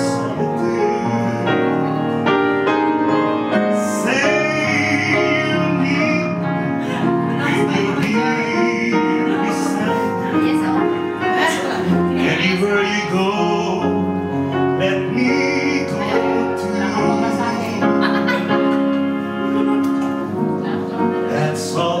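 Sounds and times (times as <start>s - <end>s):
person singing with vibrato: 0.0s - 2.2s, 3.1s - 18.5s
piano playing sustained chords: 0.0s - 22.0s.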